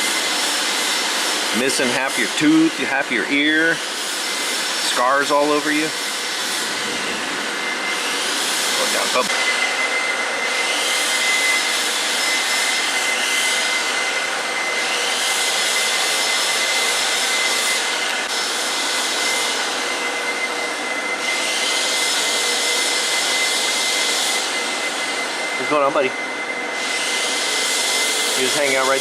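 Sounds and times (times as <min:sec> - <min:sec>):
high-pitched machine whine: 0:00.0 - 0:29.0
machine blower rushing: 0:00.0 - 0:29.0.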